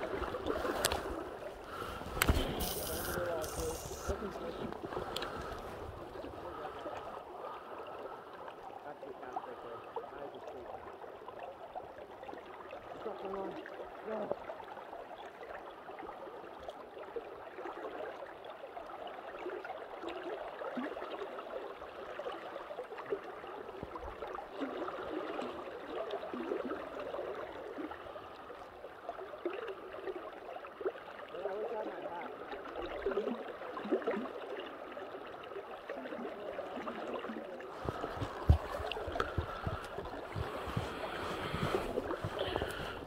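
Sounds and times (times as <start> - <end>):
river water gurgling: 0.0 - 43.0.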